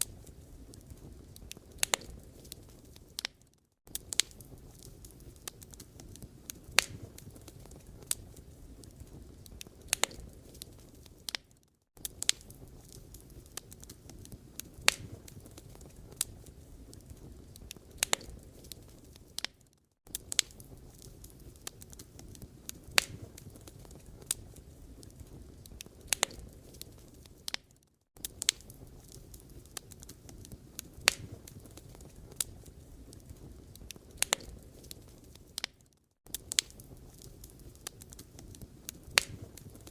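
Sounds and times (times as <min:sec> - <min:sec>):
low rush of flame: 0:00.0 - 0:11.4, 0:12.0 - 0:19.5, 0:20.1 - 0:27.6, 0:28.2 - 0:35.5, 0:36.3 - 0:39.9
wood fire crackling: 0:00.0 - 0:39.9.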